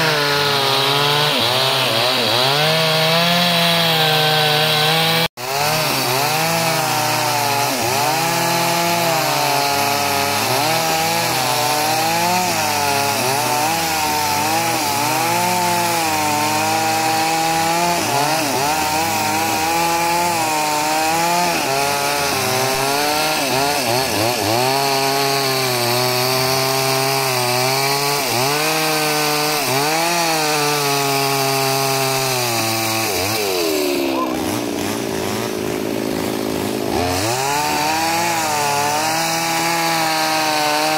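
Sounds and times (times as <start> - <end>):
chainsaw cutting through log: 0.0 - 40.9.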